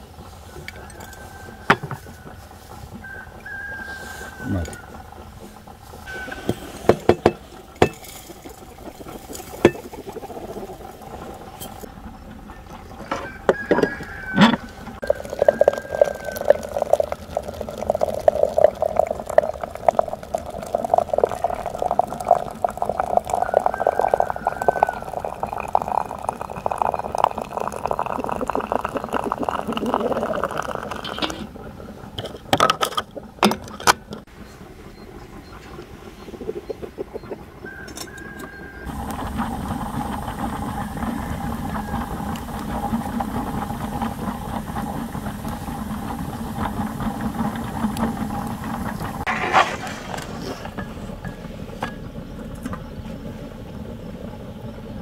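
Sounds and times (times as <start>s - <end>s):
water pouring into teapot: 0.6s - 32.6s, 36.2s - 50.9s.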